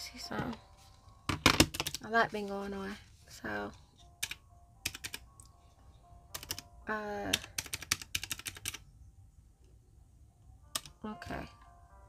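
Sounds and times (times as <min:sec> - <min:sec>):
faint music: 0:00.0 - 0:12.0.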